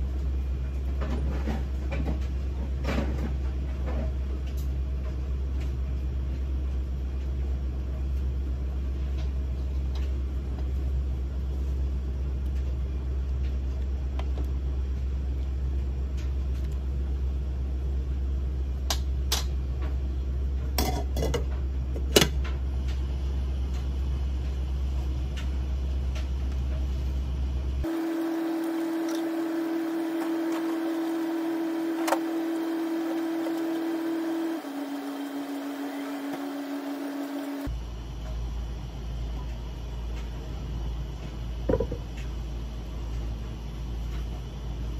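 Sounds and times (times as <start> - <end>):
gas burner rumble: 0.0 - 44.9
steady hum: 4.6 - 44.9.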